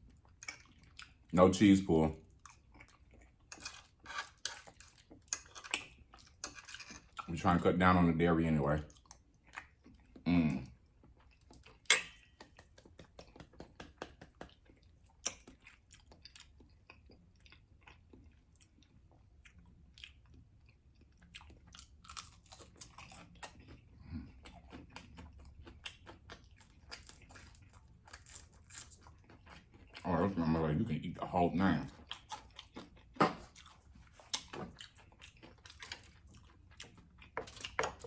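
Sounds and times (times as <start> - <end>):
person chewing food: 0.0 - 1.3, 2.0 - 7.4, 8.8 - 38.0.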